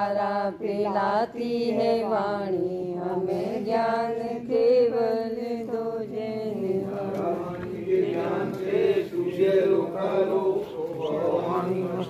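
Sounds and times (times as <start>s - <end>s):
person singing a hymn: 0.0s - 12.0s.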